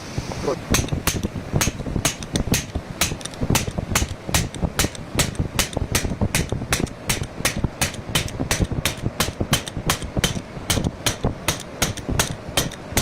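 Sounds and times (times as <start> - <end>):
hammer blows on metal: 0.6 - 13.0.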